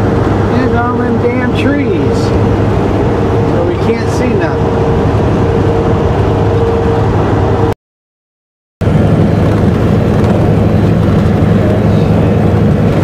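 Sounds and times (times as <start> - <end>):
road noise: 0.0 - 7.8, 8.8 - 13.0
steady whine: 0.0 - 7.8, 8.8 - 13.0
truck engine drone: 0.0 - 7.8, 8.8 - 13.0.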